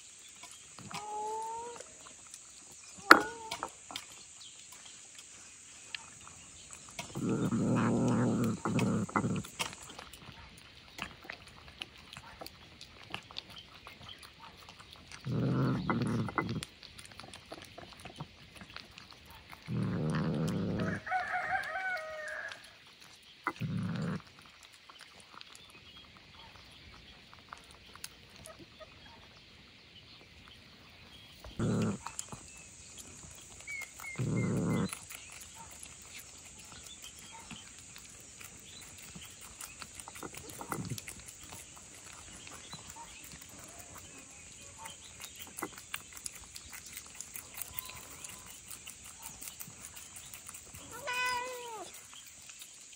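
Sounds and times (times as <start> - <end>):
cat eating wet food: 0.0 - 52.9.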